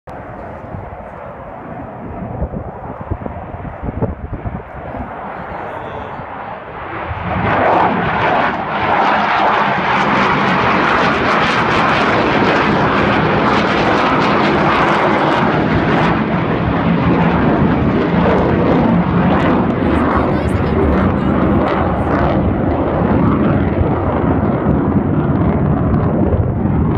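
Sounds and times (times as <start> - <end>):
jet engines taking off: 0.1 - 26.9.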